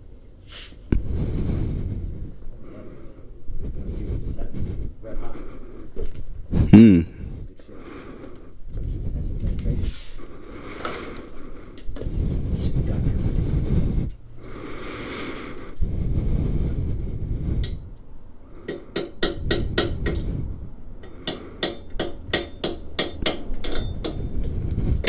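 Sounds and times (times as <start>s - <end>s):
low rumbling noise: 0.9s - 18.6s, 19.2s - 21.6s, 23.5s - 25.0s.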